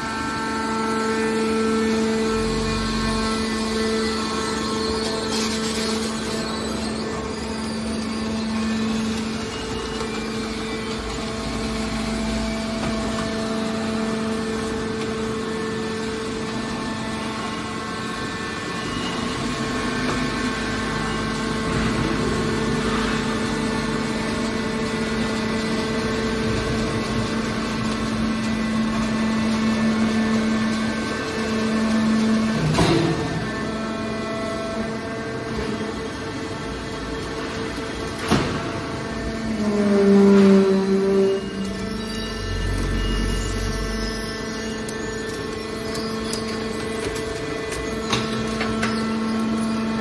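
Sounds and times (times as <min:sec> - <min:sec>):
hydraulic power unit humming: 0:00.0 - 0:50.0.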